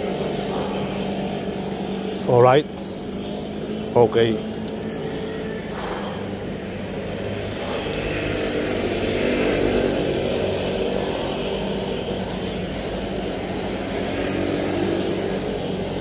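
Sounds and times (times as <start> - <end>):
motor engine running: 0.0 - 16.0.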